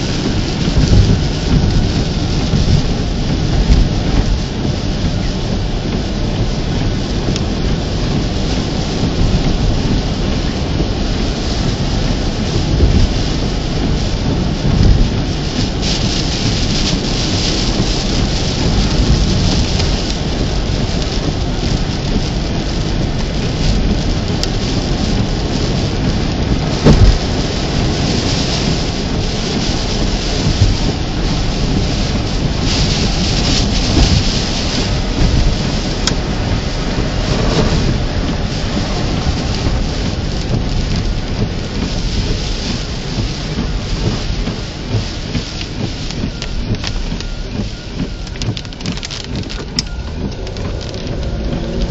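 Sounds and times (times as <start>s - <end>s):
deep thunder rumble: 0.0s - 51.9s
heavy rain pouring: 0.0s - 51.9s.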